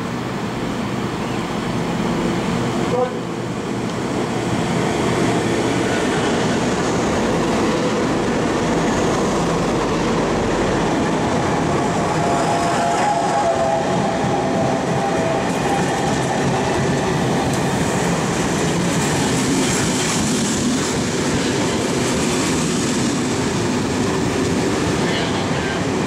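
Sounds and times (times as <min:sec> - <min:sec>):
train passing at speed: 0:00.0 - 0:26.0.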